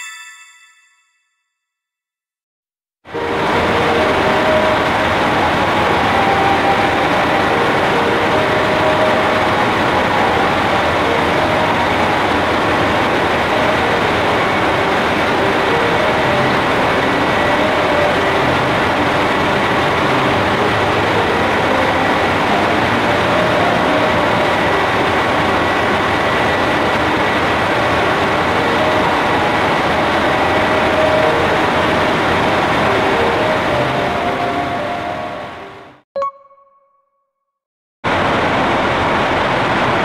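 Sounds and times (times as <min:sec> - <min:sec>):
diesel railcar engine idling: 0:03.2 - 0:35.9.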